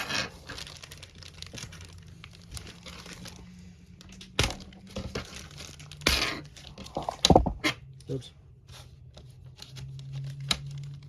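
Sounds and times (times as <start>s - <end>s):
packaging crinkling: 0.0s - 7.4s, 9.1s - 11.0s.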